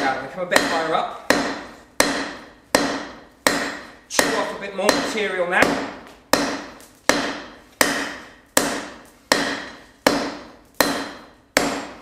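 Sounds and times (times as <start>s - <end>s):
hammer striking hot steel on anvil: 0.0s - 12.0s.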